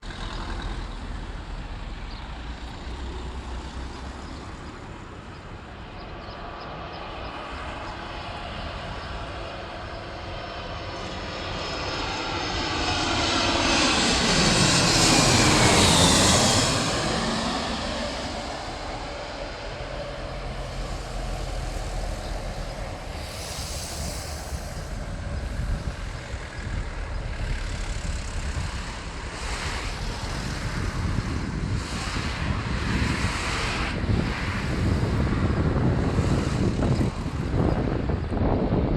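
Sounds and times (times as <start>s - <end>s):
jet airliner passing overhead: 0.0s - 38.9s
rough rumble of jet landing: 0.0s - 38.9s.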